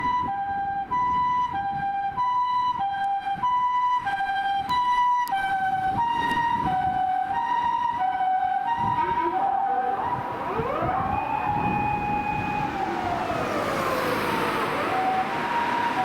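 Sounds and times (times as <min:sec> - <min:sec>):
two-tone ambulance siren: 0:00.0 - 0:16.0.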